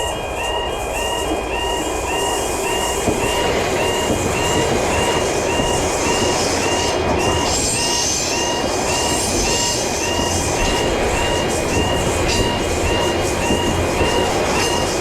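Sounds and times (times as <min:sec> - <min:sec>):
railroad crossing bell ringing: 0:00.0 - 0:15.0
train rushing rumble: 0:00.0 - 0:15.0.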